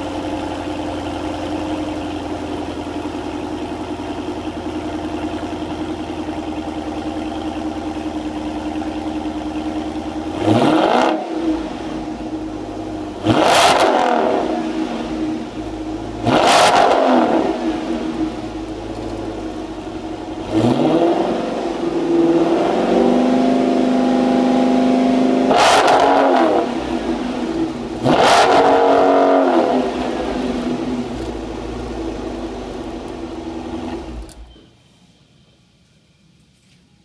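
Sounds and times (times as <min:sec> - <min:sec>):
car engine idling and revving: 0:00.0 - 0:34.6.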